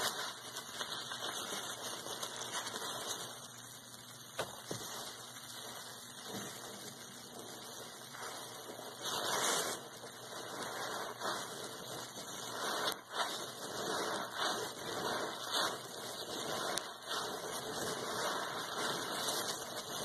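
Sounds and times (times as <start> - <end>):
sponge squishing in water: 0.0 - 20.0.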